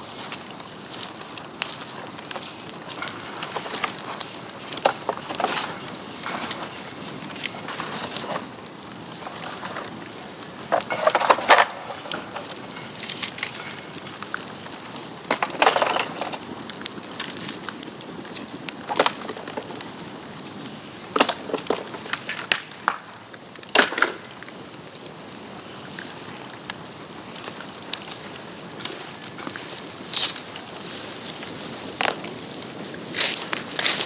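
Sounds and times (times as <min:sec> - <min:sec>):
bamboo fire crackling and popping: 0:00.0 - 0:34.0.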